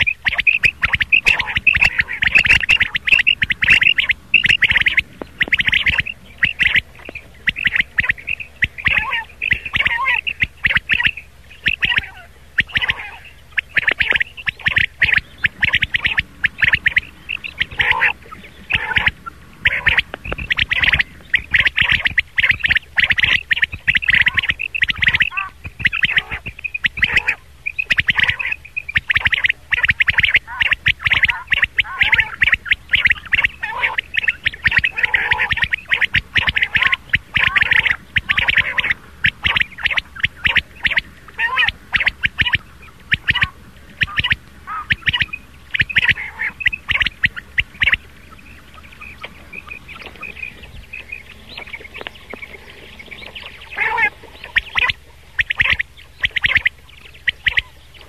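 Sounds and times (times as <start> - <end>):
quail calling: 0.0 - 58.0.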